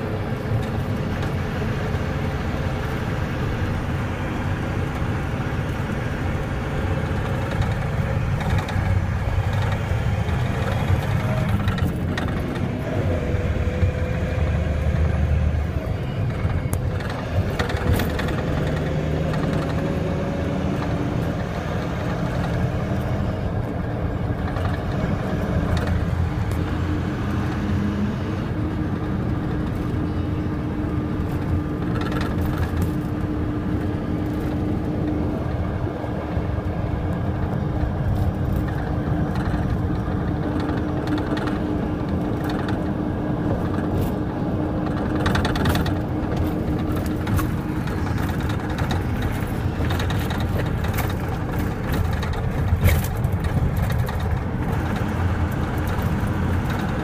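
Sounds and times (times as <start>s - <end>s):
truck road and engine rumble: 0.0s - 57.0s.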